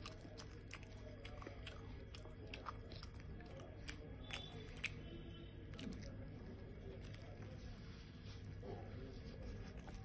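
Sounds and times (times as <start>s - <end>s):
person chewing food: 0.0s - 10.0s
steady low hum: 0.0s - 10.0s.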